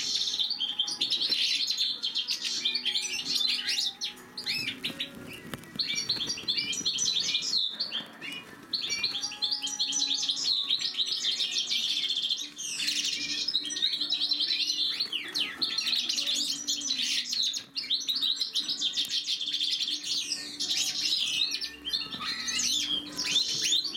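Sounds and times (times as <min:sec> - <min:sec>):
goldfinches twittering: 0:00.0 - 0:23.9.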